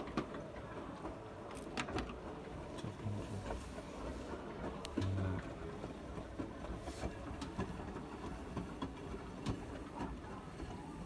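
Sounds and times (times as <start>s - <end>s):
washing machine rumbling: 0.0s - 11.0s.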